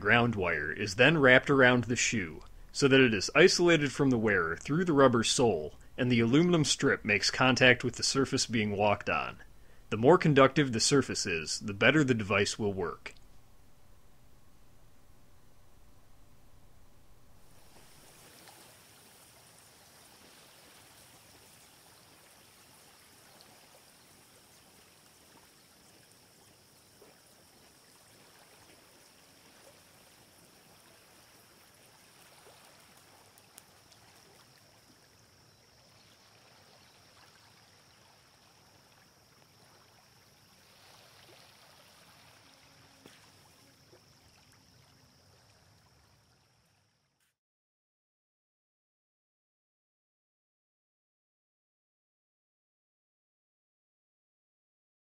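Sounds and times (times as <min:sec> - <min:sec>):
faint steady hiss: 0:00.0 - 0:47.2.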